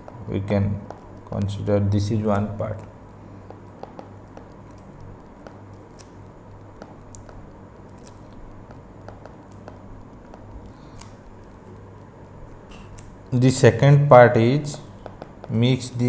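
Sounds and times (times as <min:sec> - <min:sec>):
stylus tapping on tablet screen: 0:00.0 - 0:01.6, 0:02.3 - 0:13.4, 0:14.3 - 0:16.0
low electrical hum: 0:00.0 - 0:16.0.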